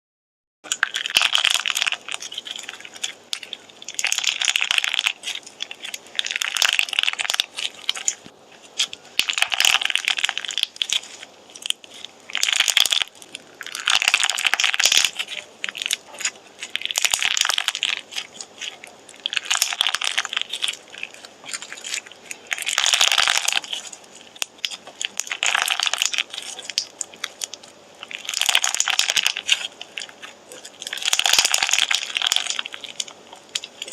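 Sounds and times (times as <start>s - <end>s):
slime squeezed and popping: 0.7s - 33.9s.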